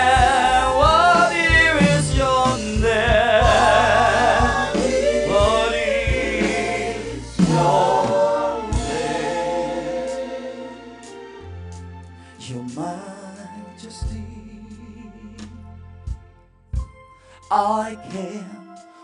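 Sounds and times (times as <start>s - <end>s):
gospel worship music: 0.0s - 19.0s.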